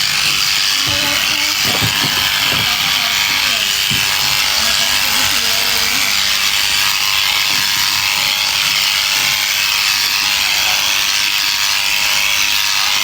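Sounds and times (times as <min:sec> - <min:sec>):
electric sheep shears buzzing: 0:00.0 - 0:13.0.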